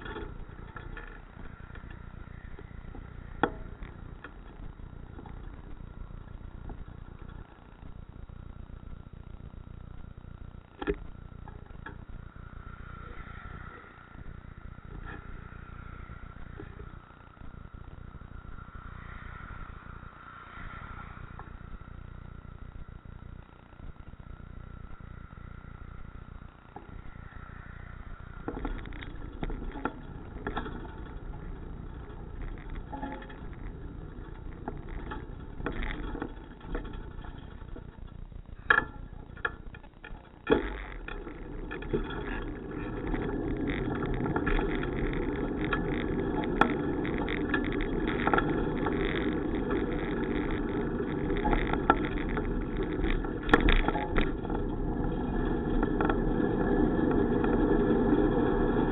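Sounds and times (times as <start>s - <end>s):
bicycle rattles and clicks: 0.0s - 58.9s
bicycle riding rumble: 0.0s - 58.9s.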